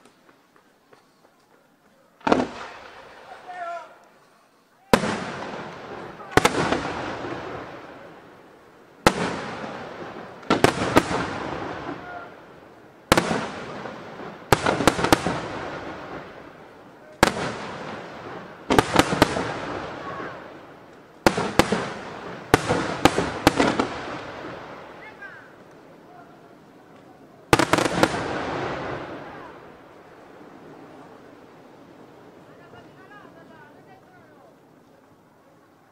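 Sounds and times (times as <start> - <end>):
firework crackle: 2.2 - 35.9.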